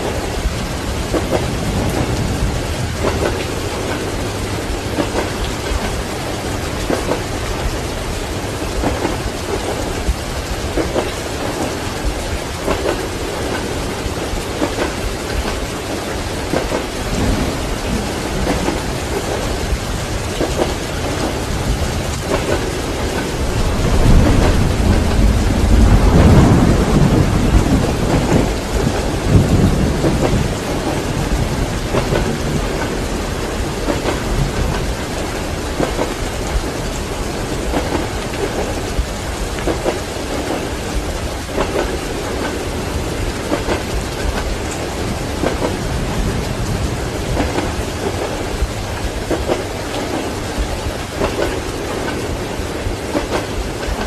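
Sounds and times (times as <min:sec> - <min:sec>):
deep roll of thunder: 0:00.0 - 0:54.0
heavy rain: 0:00.0 - 0:54.0.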